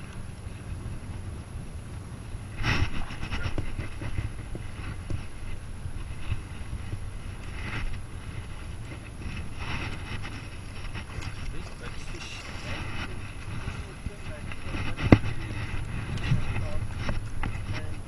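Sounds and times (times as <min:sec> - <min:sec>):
wind rumbling on microphone: 0:00.0 - 0:18.0
sleeve rustling against camera: 0:02.5 - 0:18.0.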